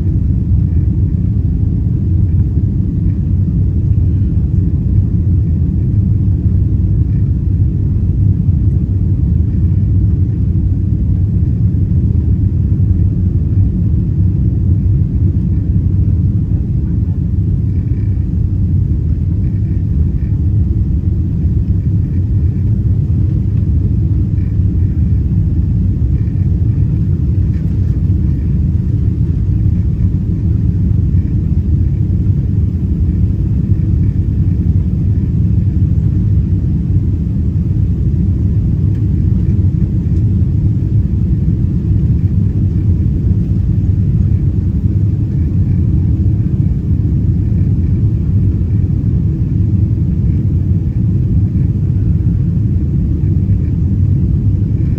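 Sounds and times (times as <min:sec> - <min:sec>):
airplane cabin rumble: 0:00.0 - 0:54.9.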